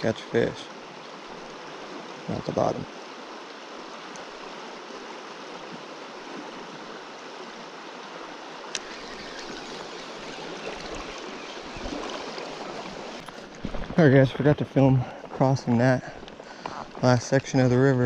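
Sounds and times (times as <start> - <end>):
river water rushing over gravel: 0.0 - 18.0.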